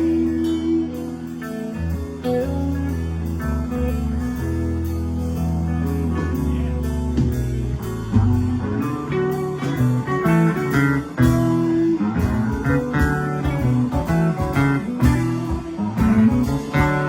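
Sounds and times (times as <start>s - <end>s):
bass line: 0.0s - 17.0s
drums: 0.0s - 17.0s
lead guitar: 0.0s - 17.0s.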